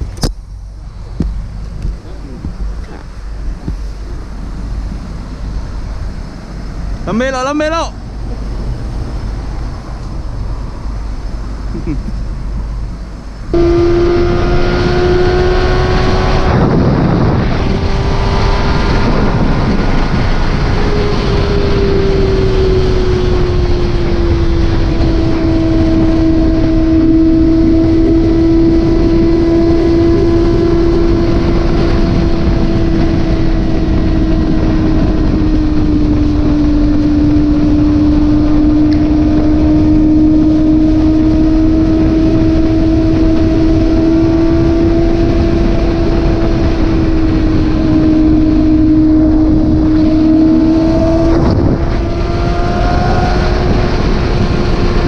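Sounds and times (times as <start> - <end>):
motorcycle engine droning: 0.0 - 55.0
road noise rushing: 0.0 - 55.0.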